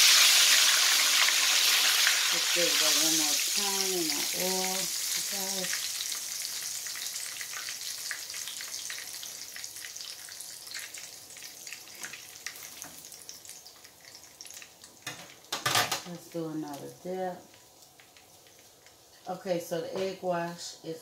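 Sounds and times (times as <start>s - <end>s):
frying oil sizzling and crackling: 0.0s - 20.8s.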